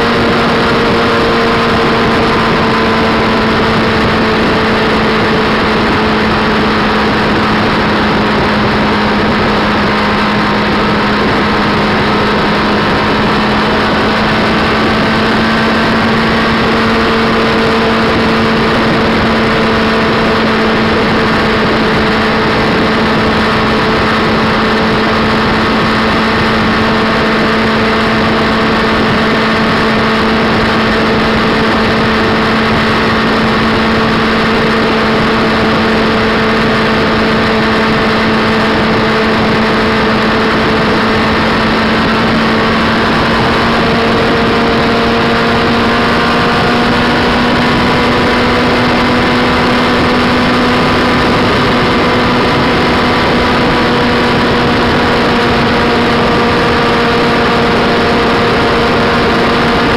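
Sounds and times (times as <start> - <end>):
loud wind rush: 0.0 - 59.9
motorcycle engine cruising: 0.0 - 59.9.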